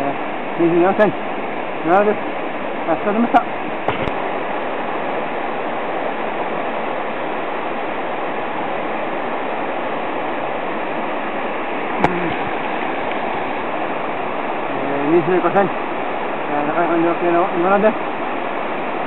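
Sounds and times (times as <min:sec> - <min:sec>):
rushing mountain stream: 0:00.0 - 0:19.0.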